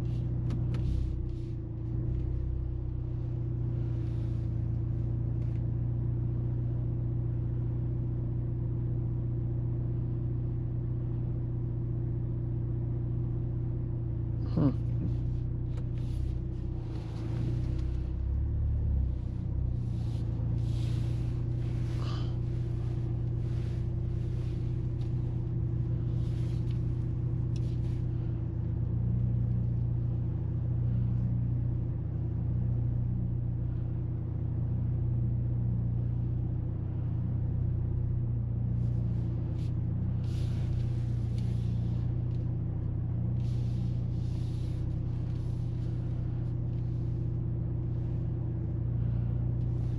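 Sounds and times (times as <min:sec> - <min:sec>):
car engine drone inside cabin: 0:00.0 - 0:49.9.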